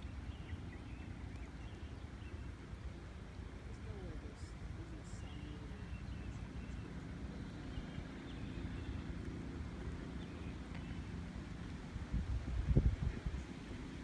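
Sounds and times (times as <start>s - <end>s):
distant engine hum: 0.0s - 14.0s.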